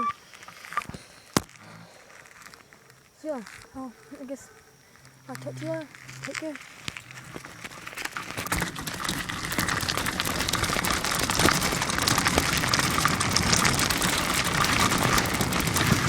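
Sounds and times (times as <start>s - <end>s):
bicycle riding noise: 0.0s - 16.0s.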